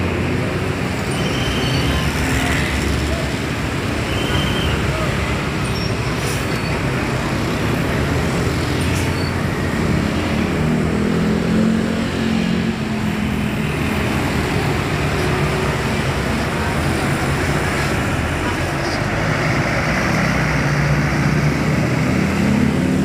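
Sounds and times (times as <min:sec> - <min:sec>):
bus diesel engines passing: 0:00.0 - 0:23.0
traffic noise: 0:00.0 - 0:23.0.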